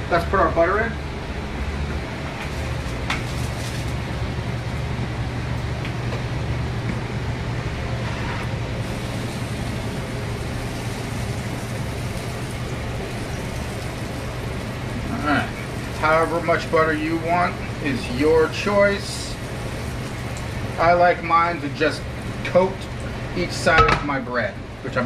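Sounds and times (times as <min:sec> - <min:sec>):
kitchen ventilation drone: 0:00.0 - 0:25.0.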